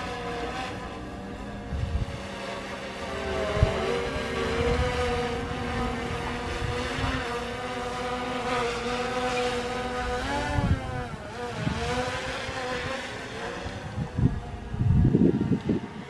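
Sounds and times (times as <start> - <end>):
quadcopter drone buzzing: 0.0 - 16.0
wind rumbling on microphone: 0.0 - 16.0.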